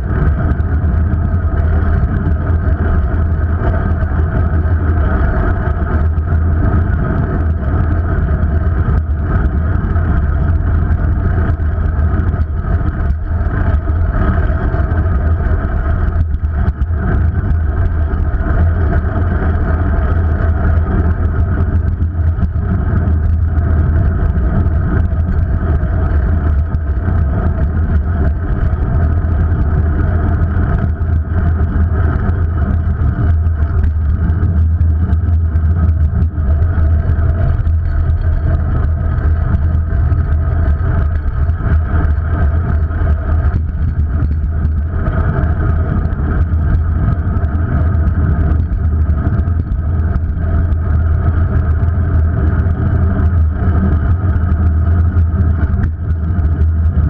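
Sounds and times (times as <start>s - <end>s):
wind and road rumble: 0.0s - 57.0s.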